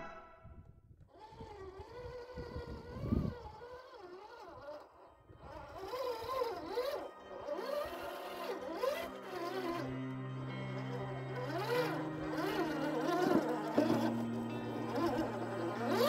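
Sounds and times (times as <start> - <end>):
electric motor whining: 1.1 - 16.0.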